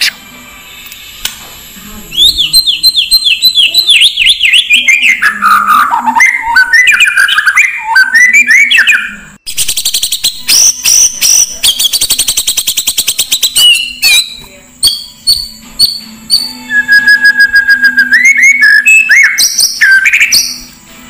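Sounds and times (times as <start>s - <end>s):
bird song whistles and trills: 2.1s - 20.8s.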